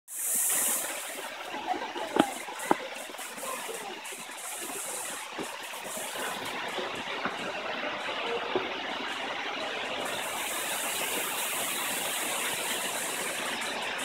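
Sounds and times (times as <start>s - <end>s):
waterfall roaring: 0.2s - 14.0s.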